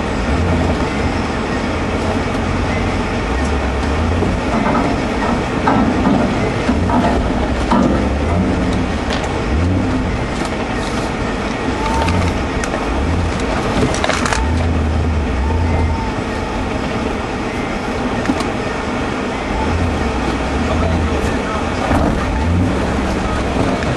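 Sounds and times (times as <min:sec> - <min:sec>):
body and suspension rattles: 0:00.0 - 0:23.9
car engine revving: 0:00.0 - 0:23.9.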